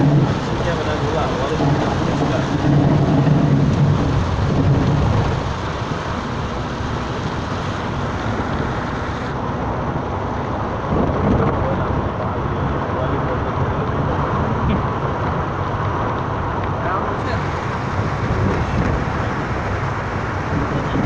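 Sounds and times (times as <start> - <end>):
rain: 0.0 - 21.0
vehicle engine and road noise: 0.0 - 21.0.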